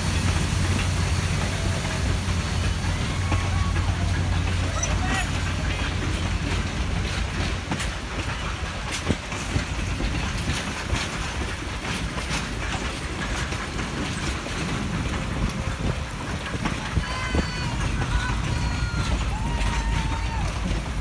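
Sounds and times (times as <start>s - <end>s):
train cars rumbling past: 0.0s - 21.0s
wheels clicking over rail joints: 0.0s - 21.0s.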